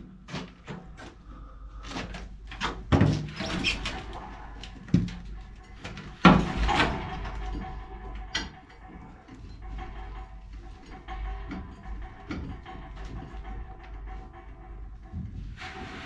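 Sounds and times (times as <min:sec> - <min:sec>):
metal clanks and knocks on pipes: 0:01.8 - 0:16.0.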